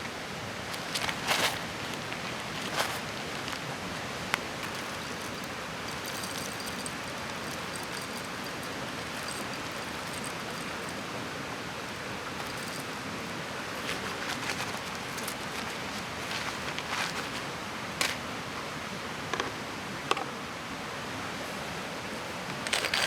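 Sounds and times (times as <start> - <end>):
mountain stream rushing: 0.0 - 23.0.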